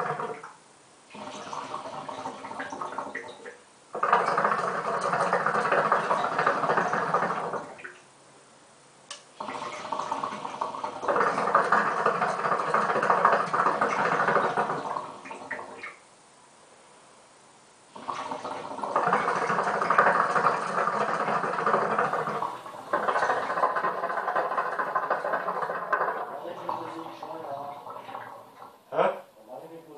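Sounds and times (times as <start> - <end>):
hookah water bubbling: 0.0 - 8.1, 9.1 - 16.1, 17.9 - 28.9.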